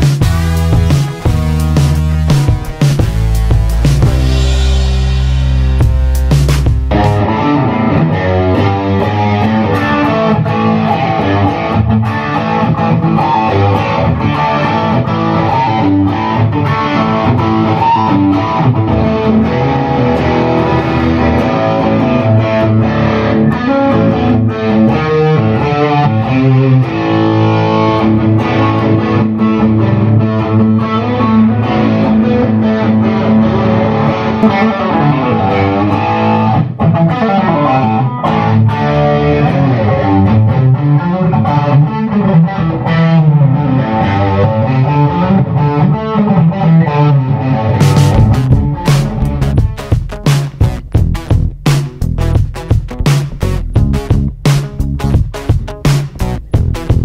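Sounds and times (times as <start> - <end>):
electric guitar picked and strummed: 0.0 - 57.0.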